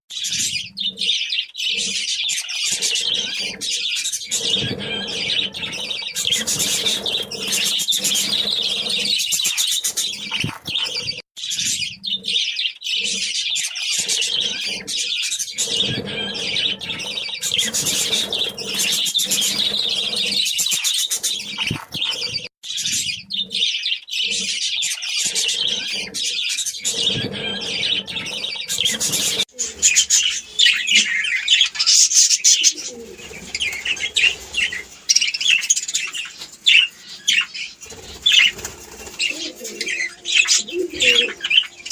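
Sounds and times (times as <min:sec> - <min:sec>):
budgerigars chattering: 0:00.1 - 0:41.9.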